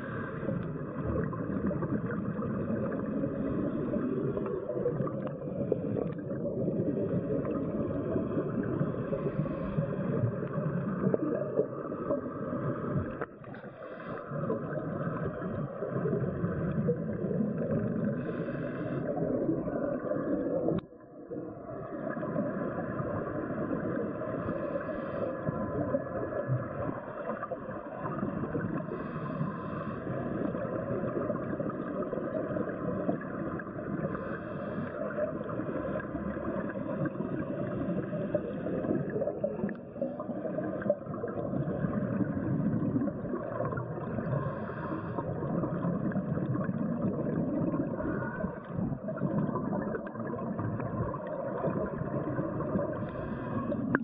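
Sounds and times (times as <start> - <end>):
underwater gurgling: 0.0 - 54.0
underwater rushing drone: 0.0 - 54.0.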